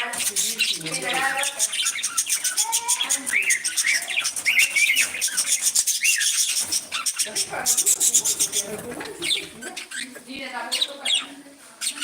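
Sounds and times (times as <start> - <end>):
budgies chirping: 0.0 - 12.0.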